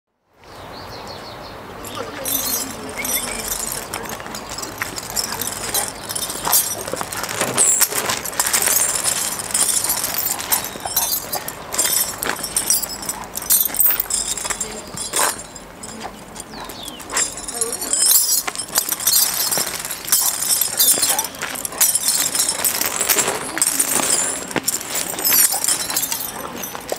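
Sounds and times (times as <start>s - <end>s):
metal chain rattling: 1.8s - 26.9s
feet scuffing on gravel: 2.6s - 26.9s.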